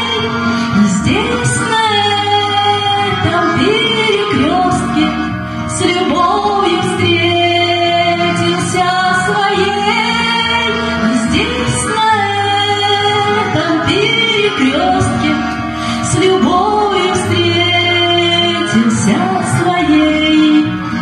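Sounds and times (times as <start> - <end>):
woman singing into a microphone: 0.0 - 21.0.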